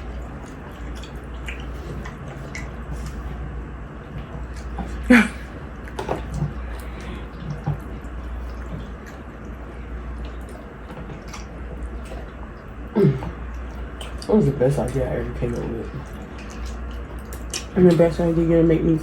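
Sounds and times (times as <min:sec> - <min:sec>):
wet chewing and mouth smacks: 0:00.0 - 0:18.3
steady low hum: 0:00.0 - 0:19.0.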